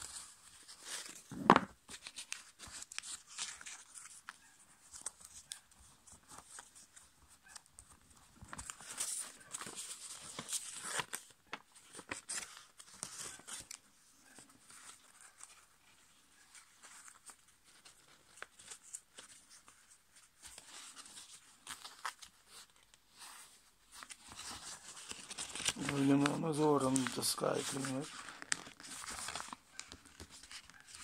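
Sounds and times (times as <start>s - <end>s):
paper rustling and crinkling: 0.0s - 31.0s.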